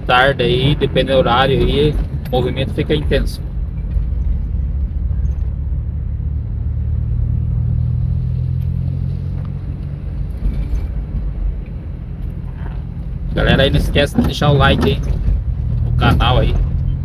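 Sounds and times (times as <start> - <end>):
car engine and tyre hum: 0.0 - 17.0.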